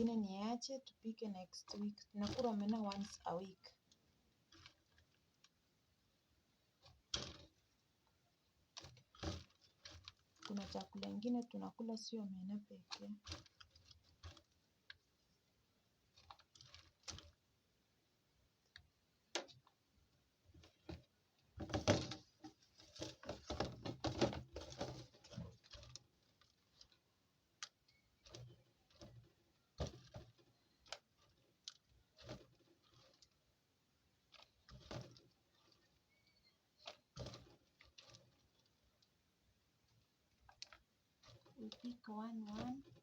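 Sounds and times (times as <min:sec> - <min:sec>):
dried fish clicking and rustling: 0:00.0 - 0:43.0.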